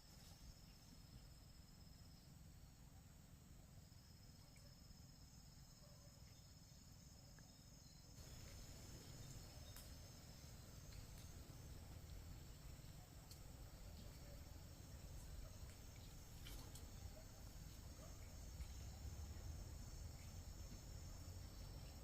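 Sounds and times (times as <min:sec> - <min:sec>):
background noise: 0:00.0 - 0:22.0
faint crickets calling: 0:00.0 - 0:22.0.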